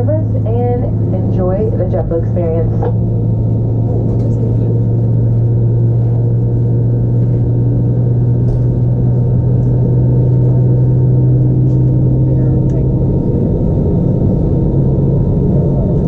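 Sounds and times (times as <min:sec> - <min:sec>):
airliner cabin hum: 0:00.0 - 0:16.0.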